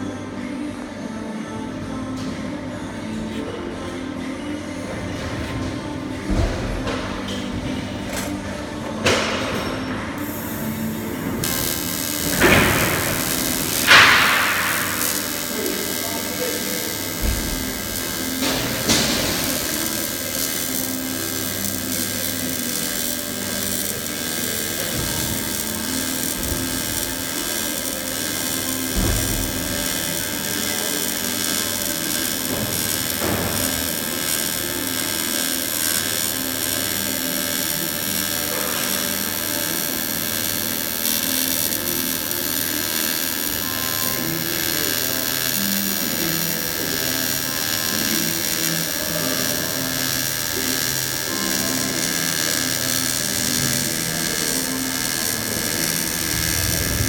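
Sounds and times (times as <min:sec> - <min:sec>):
welding arc: 0:09.0 - 0:57.0.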